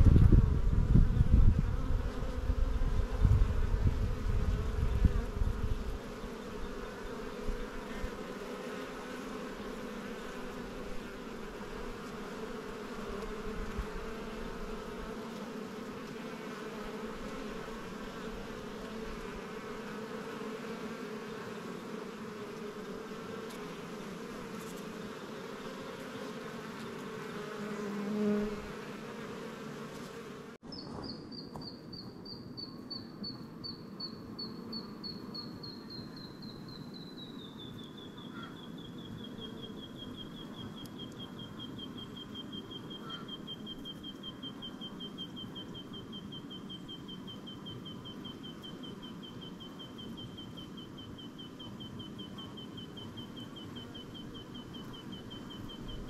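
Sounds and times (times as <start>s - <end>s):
bee buzz: 0.0s - 56.0s
bee colony humming: 0.0s - 56.0s.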